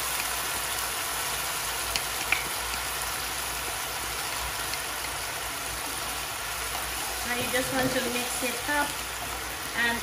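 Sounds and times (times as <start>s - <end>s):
sauce sizzling in a pan: 0.0s - 10.0s.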